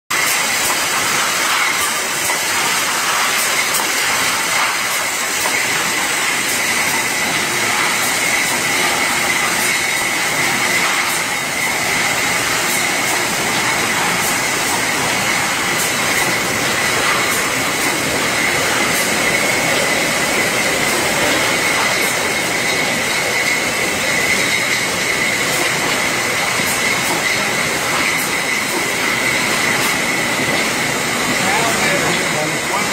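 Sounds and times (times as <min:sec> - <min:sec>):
packing machine running: 0:00.1 - 0:32.9.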